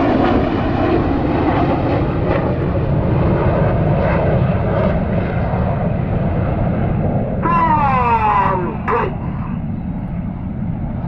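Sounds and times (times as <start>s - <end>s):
jets flying overhead: 0.0s - 11.0s.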